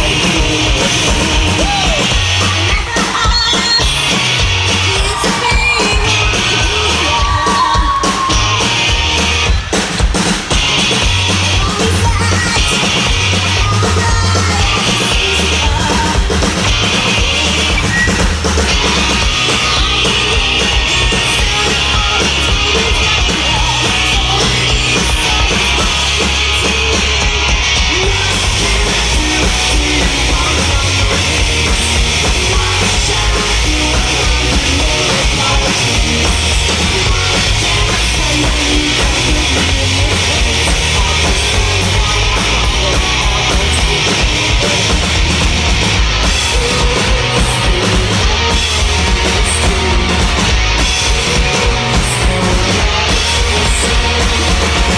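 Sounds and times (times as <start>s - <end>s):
rock band playing live: 0.0s - 54.9s.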